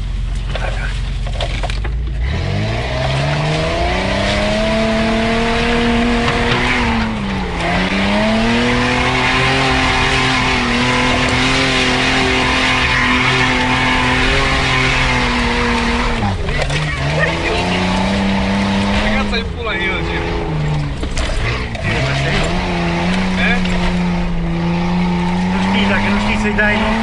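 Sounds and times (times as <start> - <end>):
engine revving hard: 2.2 - 27.0.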